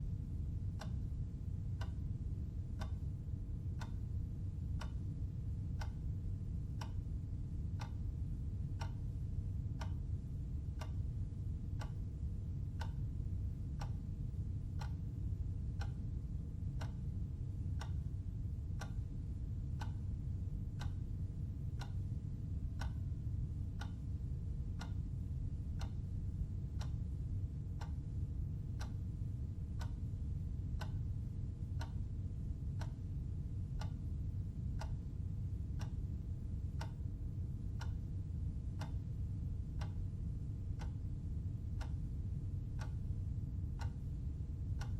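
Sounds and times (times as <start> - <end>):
clock ticking: 0.6 - 5.1, 5.7 - 6.1, 6.7 - 7.1, 7.7 - 17.2, 17.8 - 25.1, 25.7 - 29.1, 29.7 - 38.0, 38.8 - 39.2, 39.8 - 40.0, 40.6 - 44.9.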